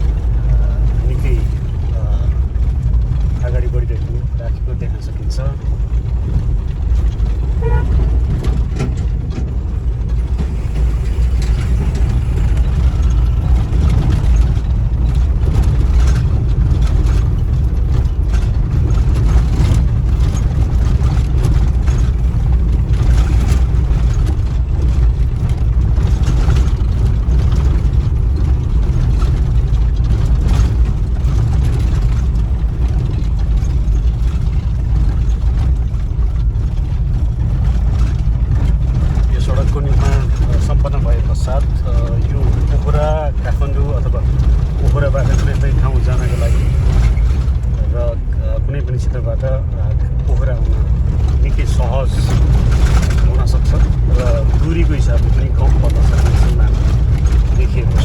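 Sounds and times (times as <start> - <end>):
vehicle engine and tyres rumbling: 0.0 - 58.0
vehicle knocks and rattles: 0.0 - 58.0.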